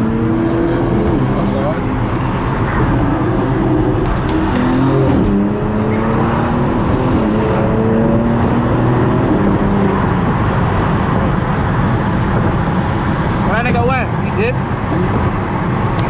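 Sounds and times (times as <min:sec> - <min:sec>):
car engine revving with gear changes: 0:00.0 - 0:16.0
road rumble: 0:00.0 - 0:16.0.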